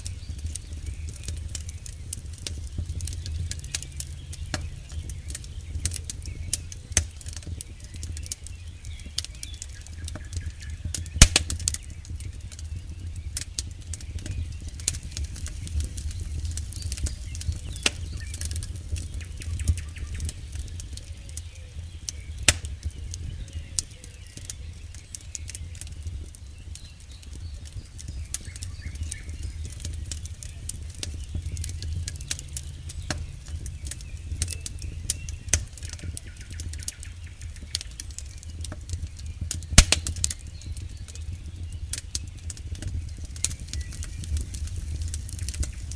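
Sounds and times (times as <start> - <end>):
campfire crackling and popping: 0.0 - 45.9
low rumble of flames: 0.0 - 45.9.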